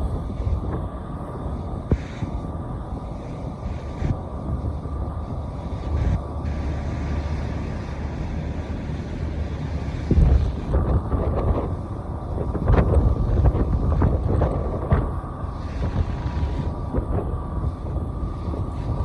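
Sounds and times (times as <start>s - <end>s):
faint steady high hum: 0.0s - 19.0s
low rumble: 0.0s - 19.0s
wind buffeting microphone: 0.0s - 19.0s.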